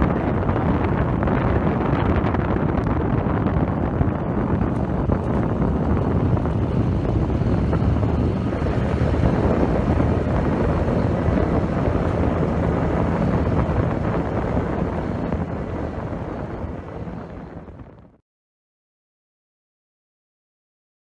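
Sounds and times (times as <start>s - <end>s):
tractor engine running: 0.0s - 18.2s
wind on microphone: 0.0s - 18.2s.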